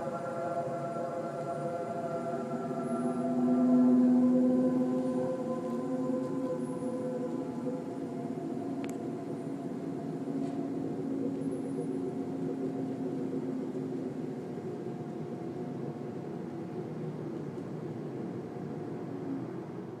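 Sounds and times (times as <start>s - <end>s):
low droning hum: 0.0s - 20.0s.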